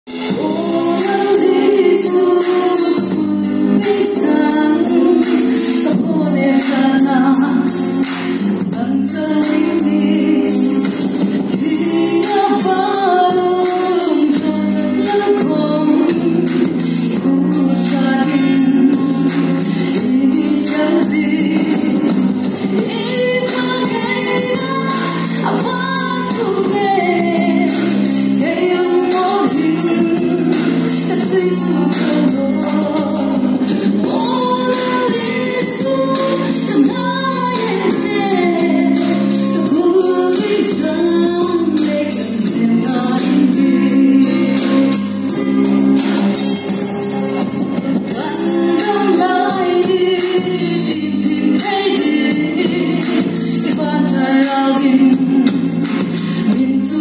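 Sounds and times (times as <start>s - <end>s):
musical accompaniment with beat: 0.0s - 57.0s
woman singing gospel: 0.2s - 7.7s, 8.8s - 45.0s, 48.1s - 55.6s.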